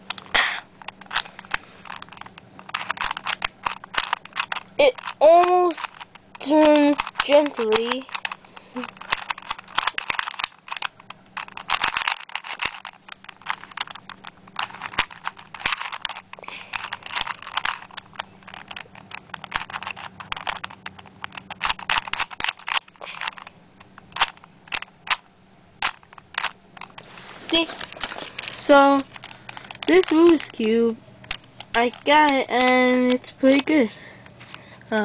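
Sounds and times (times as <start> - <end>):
puzzle cube clicking as twisted: 0.1 - 34.6.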